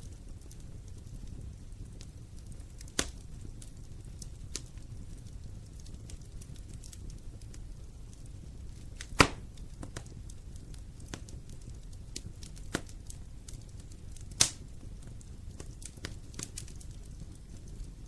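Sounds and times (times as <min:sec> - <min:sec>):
loud pops from fire: 0:00.0 - 0:18.0
wood fire crackling: 0:00.0 - 0:18.0.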